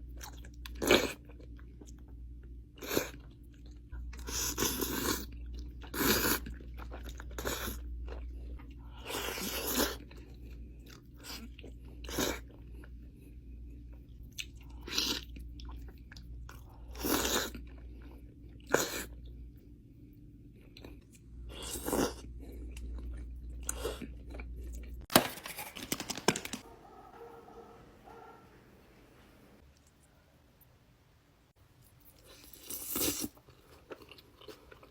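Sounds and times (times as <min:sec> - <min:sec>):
person crunching and chewing food: 0:00.0 - 0:19.6, 0:20.5 - 0:26.7, 0:31.7 - 0:34.9.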